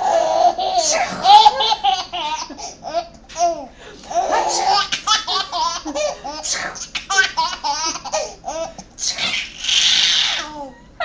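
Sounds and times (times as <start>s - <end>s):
baby laughing: 0.0s - 10.7s.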